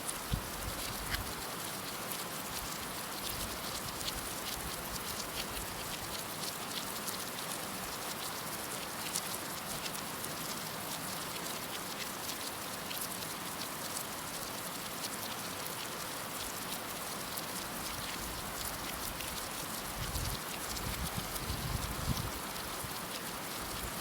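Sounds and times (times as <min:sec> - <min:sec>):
raindrops ticking on surface: 0:00.0 - 0:24.0.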